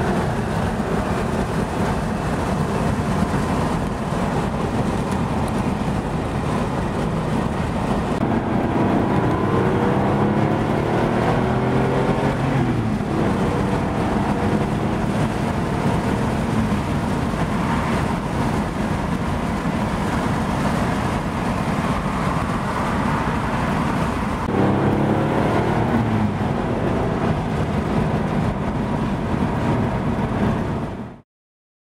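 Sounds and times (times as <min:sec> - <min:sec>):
car engine accelerating: 0:00.0 - 0:31.2
tyre and wind noise: 0:00.0 - 0:31.2.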